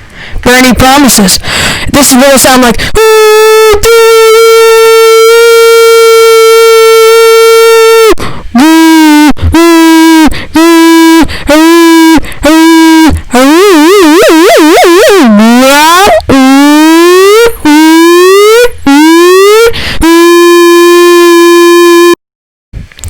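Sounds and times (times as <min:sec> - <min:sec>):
distorted buzzing tone: 0:03.0 - 0:22.2.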